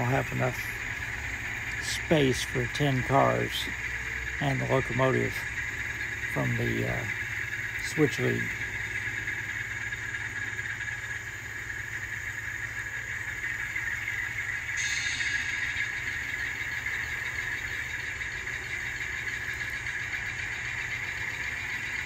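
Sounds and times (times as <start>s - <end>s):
diesel engine sound from small speaker: 0.0s - 22.0s.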